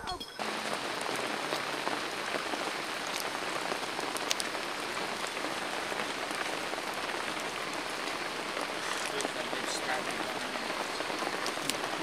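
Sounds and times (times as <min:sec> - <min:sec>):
raindrops ticking: 0:00.0 - 0:12.0
steady rain falling: 0:00.0 - 0:12.0.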